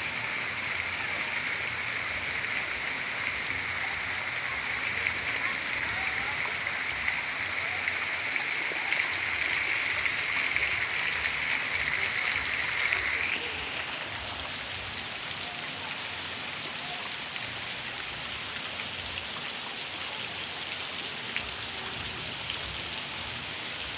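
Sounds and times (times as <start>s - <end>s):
steady rain falling: 0.0s - 23.9s.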